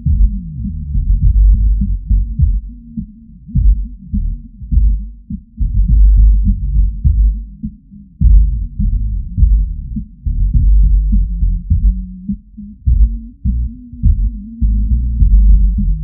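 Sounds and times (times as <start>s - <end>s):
bass-heavy electronic music: 0.0s - 16.0s.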